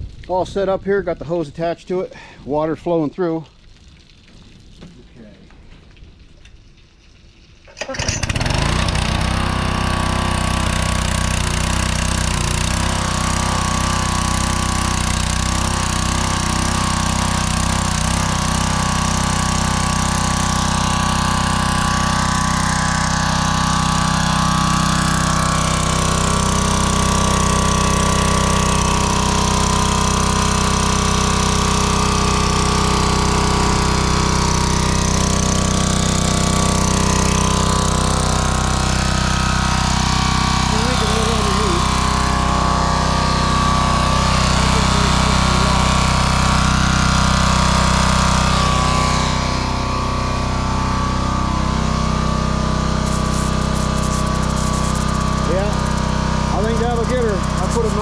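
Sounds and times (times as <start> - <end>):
small gasoline engine running: 7.7 - 58.0.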